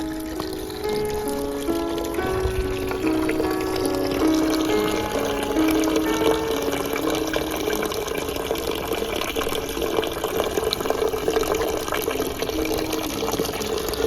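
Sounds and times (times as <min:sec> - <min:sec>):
soft background music: 0:00.0 - 0:14.0
water splashing: 0:00.0 - 0:14.0.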